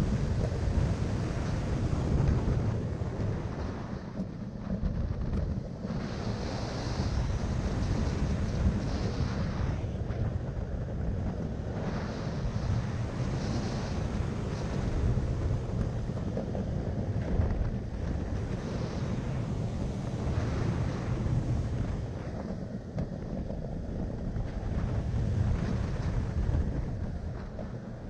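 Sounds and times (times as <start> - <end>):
roller coaster rumbling on track: 0.0 - 28.0
wind rushing over microphone: 0.0 - 28.0.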